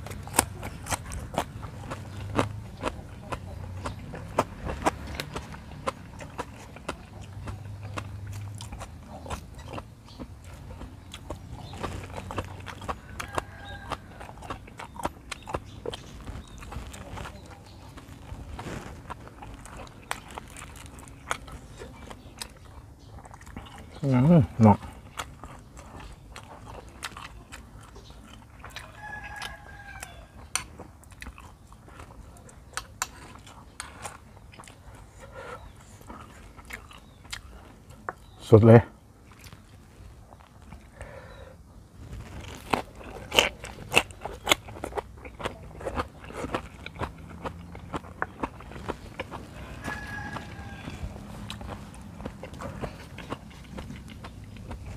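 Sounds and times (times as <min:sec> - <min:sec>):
wet chewing and smacking: 0:00.0 - 0:54.9.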